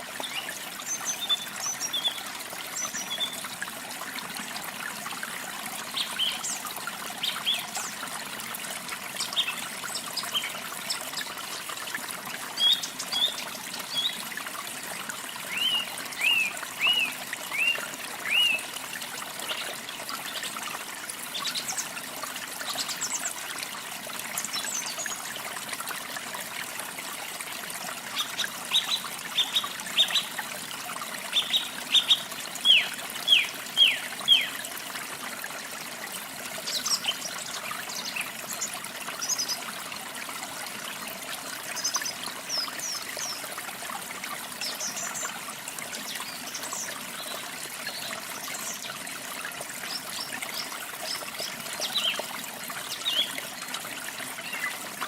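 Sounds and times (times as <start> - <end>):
running water trickling: 0.0 - 55.0.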